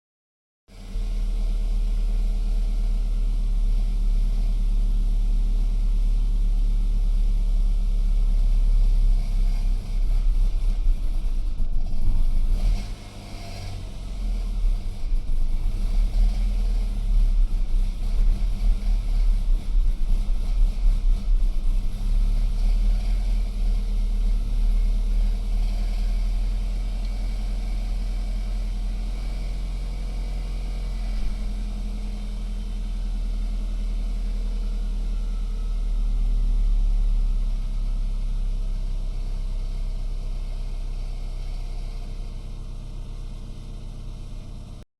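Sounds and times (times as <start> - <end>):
car engine idling unevenly: 0.8 - 44.8.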